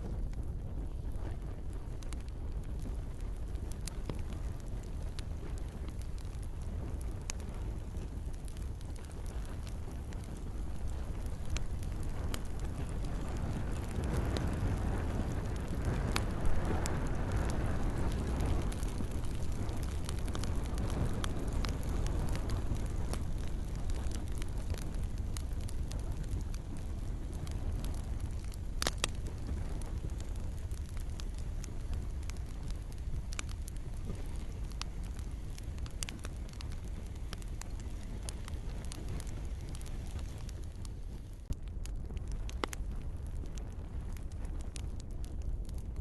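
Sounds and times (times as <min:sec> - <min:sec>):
campfire crackling: 0:00.0 - 0:46.0
soft rain hiss: 0:00.0 - 0:46.0.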